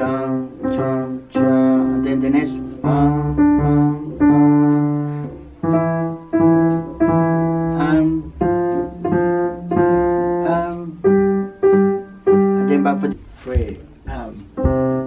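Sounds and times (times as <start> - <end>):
keyboard piano single notes: 0.0 - 15.0.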